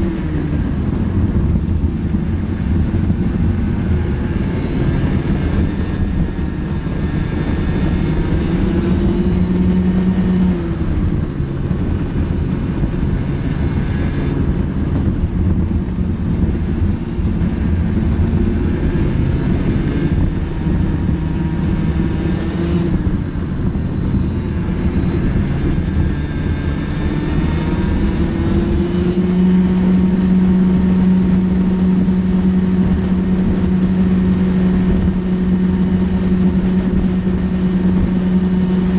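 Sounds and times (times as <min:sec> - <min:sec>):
racing kart engine revving: 0:00.0 - 0:38.9.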